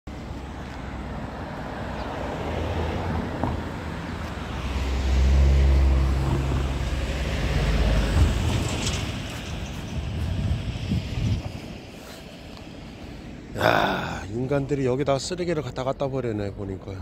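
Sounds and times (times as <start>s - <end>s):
vehicle engine rumble: 0.1s - 15.4s.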